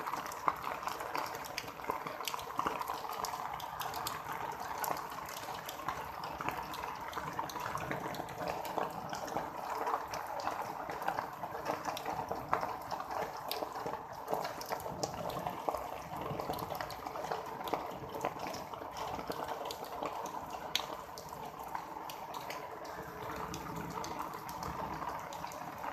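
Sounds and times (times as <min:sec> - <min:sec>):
water bubbling and trickling: 0:00.0 - 0:25.9
water drips and pops: 0:00.0 - 0:25.9.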